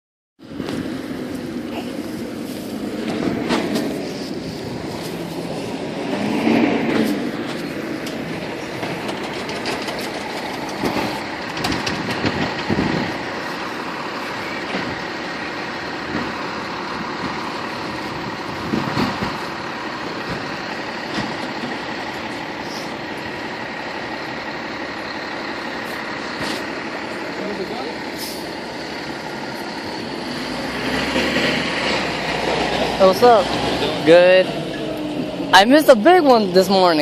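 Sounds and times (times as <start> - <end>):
fire engine idling: 0.4 - 6.2, 7.0 - 37.0.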